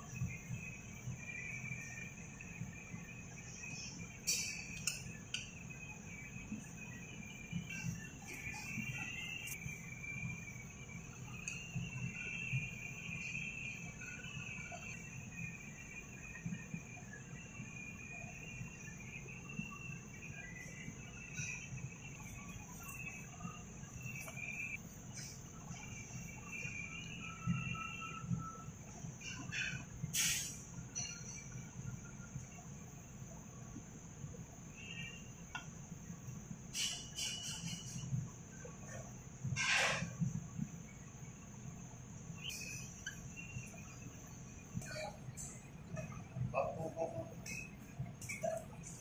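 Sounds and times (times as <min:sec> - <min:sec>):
crickets chirring: 0:00.0 - 0:49.0
high-pitched background hum: 0:00.0 - 0:49.0.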